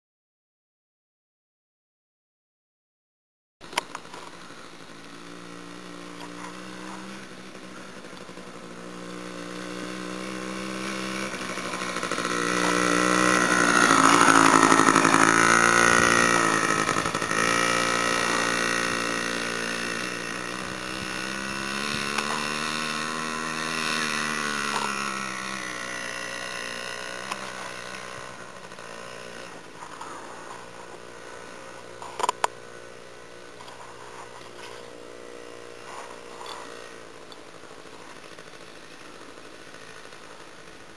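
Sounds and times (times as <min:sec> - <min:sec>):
dirt bike engine revving: 0:03.6 - 0:40.9.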